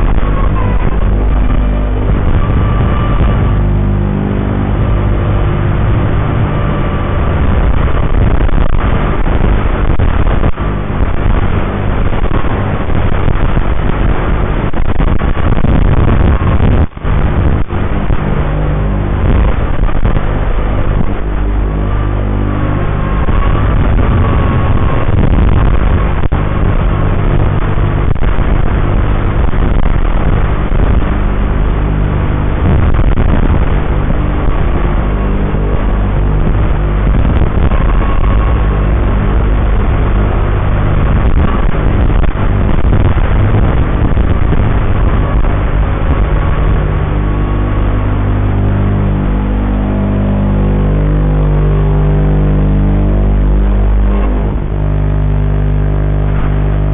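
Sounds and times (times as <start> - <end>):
quadcopter motors buzzing: 0.0 - 54.7.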